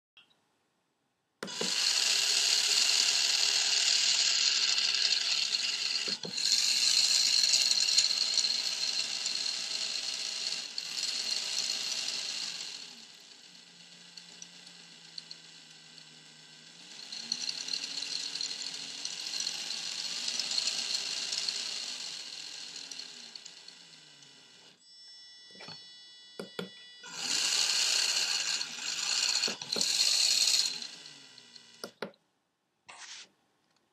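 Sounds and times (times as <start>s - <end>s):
small motor whirring: 1.4s - 24.8s, 26.9s - 32.0s.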